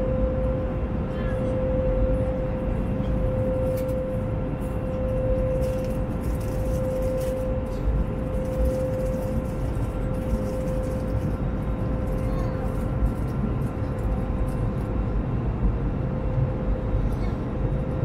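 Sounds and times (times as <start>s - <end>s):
aircraft cabin air and engine rush: 0.0s - 18.0s
steady droning tone: 0.0s - 18.0s.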